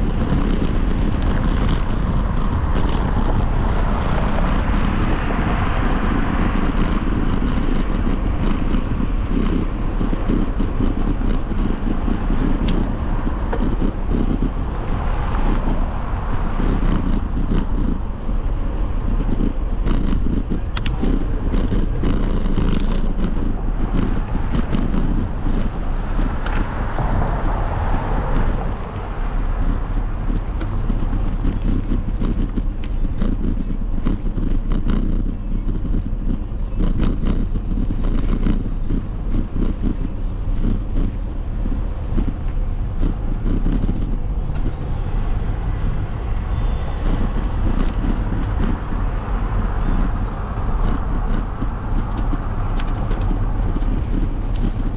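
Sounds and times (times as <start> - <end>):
bike riding noise: 0.0 - 54.9
wind buffeting microphone: 0.0 - 54.9.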